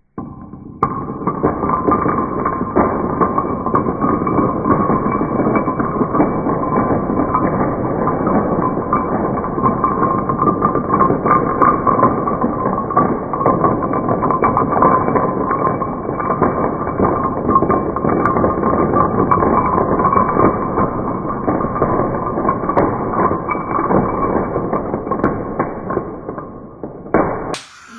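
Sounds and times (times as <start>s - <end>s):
slowed dominoes toppling: 0.2s - 26.6s, 27.6s - 27.9s.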